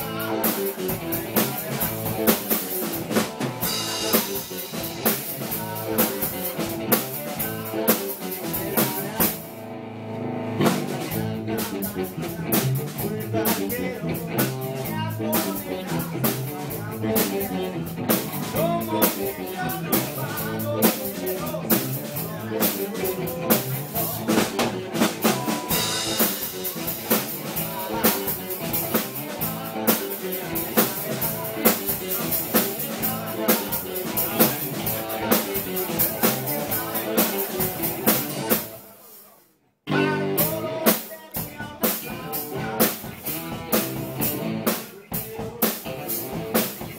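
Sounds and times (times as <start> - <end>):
bass guitar: 0.0 - 38.8, 39.9 - 46.9
keyboard: 0.0 - 38.8
electric guitar: 0.0 - 38.9, 39.9 - 46.9
live band playing: 0.0 - 39.2, 39.9 - 46.9
drum kit: 0.0 - 46.9.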